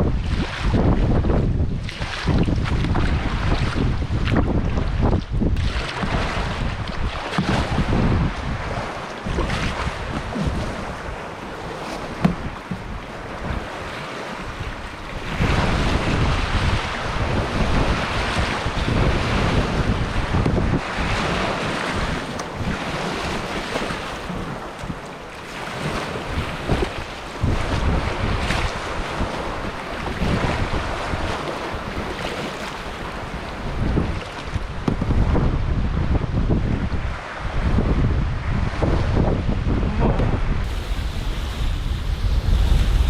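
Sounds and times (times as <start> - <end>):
waves breaking: 0.0 - 43.0
wind buffeting microphone: 0.0 - 43.0.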